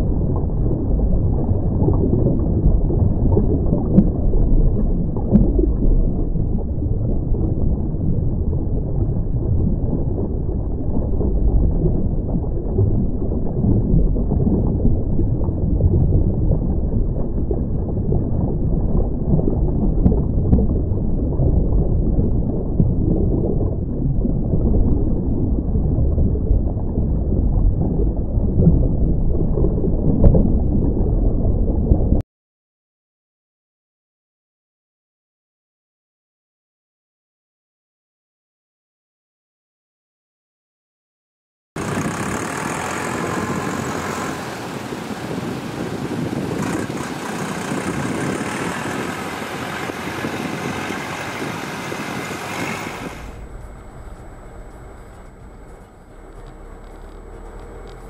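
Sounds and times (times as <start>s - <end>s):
muffled underwater rumble: 0.0s - 32.2s, 41.8s - 58.0s.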